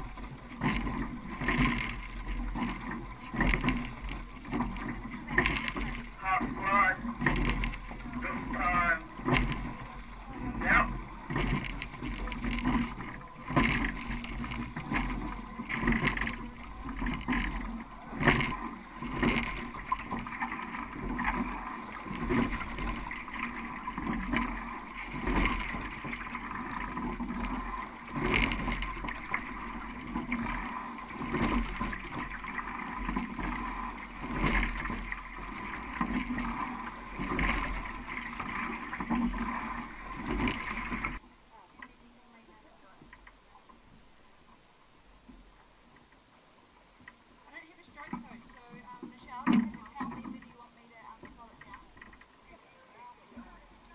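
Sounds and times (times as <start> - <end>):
oars swooshing and knocking: 0.0 - 53.9
water washing along boat: 0.0 - 53.9.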